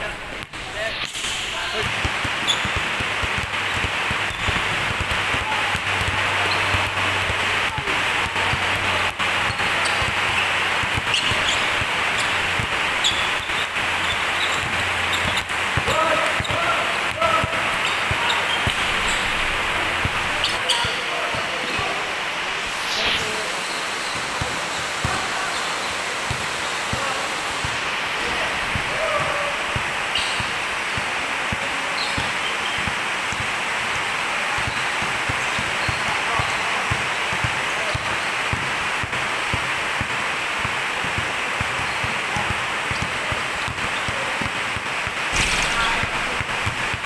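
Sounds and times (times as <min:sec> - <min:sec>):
basketballs bouncing on concrete: 0:00.0 - 0:22.0, 0:24.0 - 0:25.6, 0:26.2 - 0:47.0
rain on a metal roof: 0:01.8 - 0:20.4, 0:23.6 - 0:47.0.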